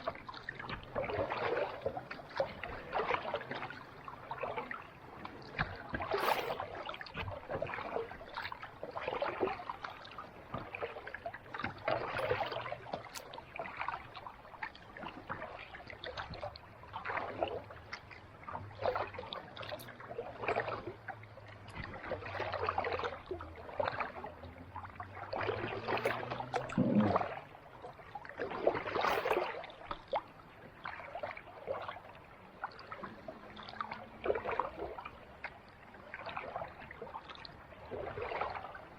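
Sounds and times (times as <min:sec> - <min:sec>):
kayak paddle splashing: 0:00.0 - 0:38.9.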